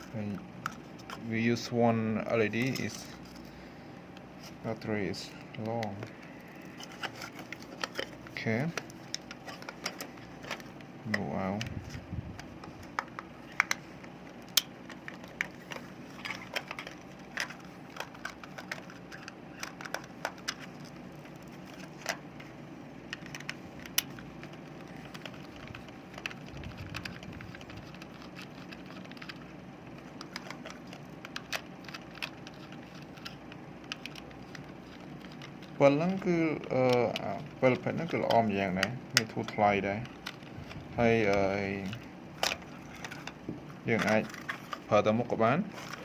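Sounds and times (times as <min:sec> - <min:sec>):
steady low hum: 0:00.0 - 0:46.0
plastic and metal parts clicking: 0:05.5 - 0:22.3, 0:23.1 - 0:44.8.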